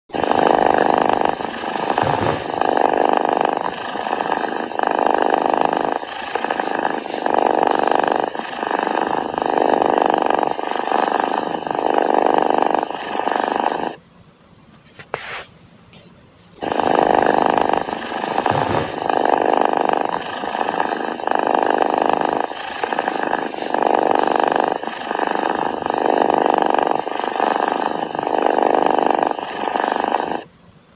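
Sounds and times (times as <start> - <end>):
cat snoring: 0.1 - 14.0, 16.6 - 30.5.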